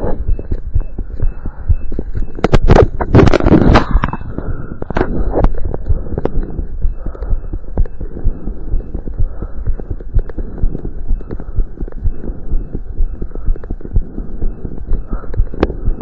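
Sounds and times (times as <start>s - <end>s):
constant rushing noise: 0.0s - 16.0s
fast heartbeat through stethoscope: 0.0s - 16.0s.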